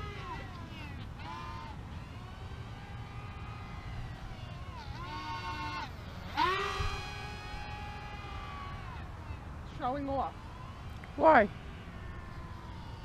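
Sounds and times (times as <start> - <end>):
model airplane motors whining: 0.0 - 13.0.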